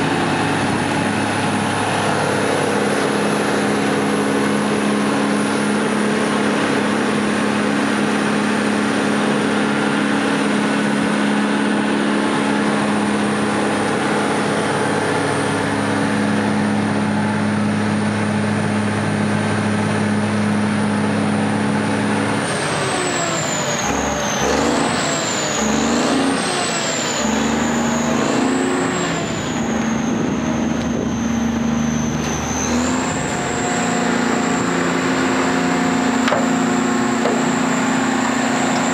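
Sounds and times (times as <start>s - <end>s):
diesel engine revving: 0.0s - 38.9s
high whine: 0.0s - 38.9s.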